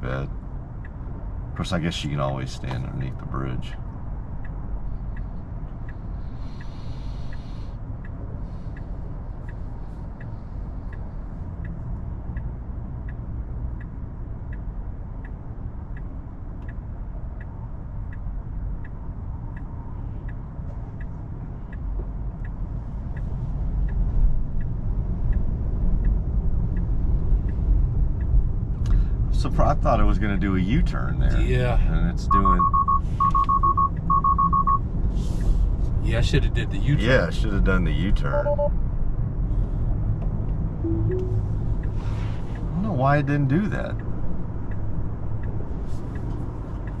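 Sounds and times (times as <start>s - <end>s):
turn signal ticking: 0.3s - 31.5s, 32.3s - 35.0s, 40.0s - 47.0s.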